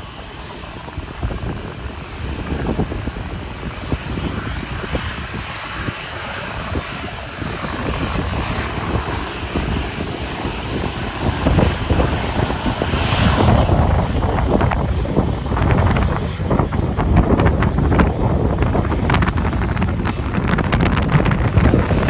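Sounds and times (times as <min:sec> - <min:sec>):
jet engines at takeoff: 0:00.0 - 0:22.0
wind buffeting microphone: 0:00.0 - 0:22.0.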